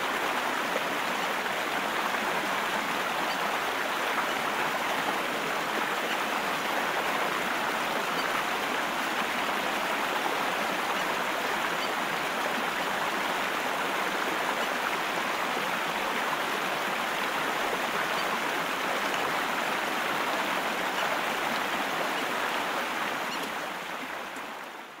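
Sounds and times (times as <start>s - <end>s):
rush of running water: 0.0s - 25.0s.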